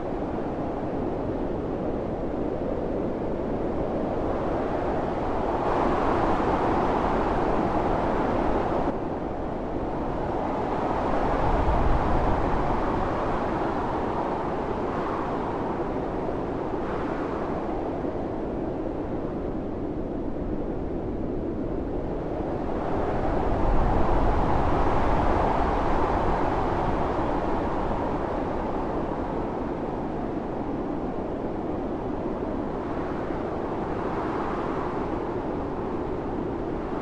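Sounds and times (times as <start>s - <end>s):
howling blizzard wind: 0.0s - 37.0s.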